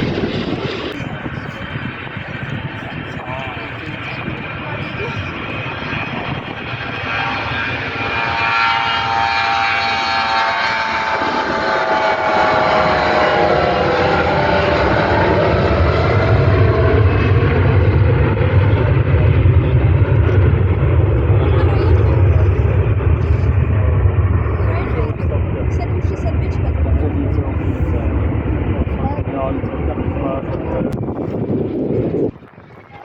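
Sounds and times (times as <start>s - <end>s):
jet engine whine sliding down: 0.0s - 33.0s
low jet engine rumble: 0.0s - 33.0s.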